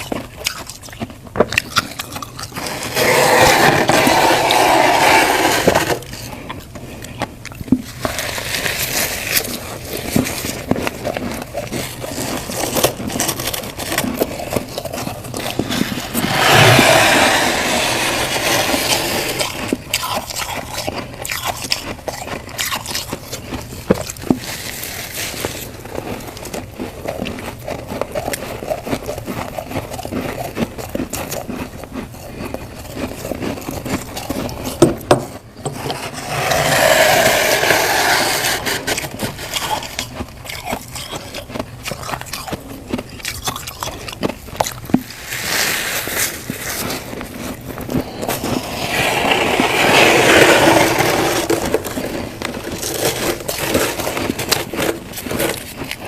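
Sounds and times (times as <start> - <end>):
frost crunching while chewed: 0.0 - 5.0, 5.6 - 56.0.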